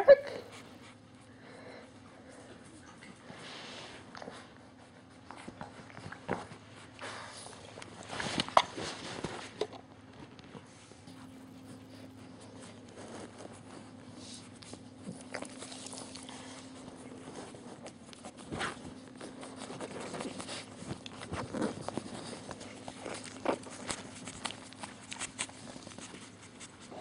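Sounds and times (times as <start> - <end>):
puppies shuffling on blanket: 0.0 - 27.0.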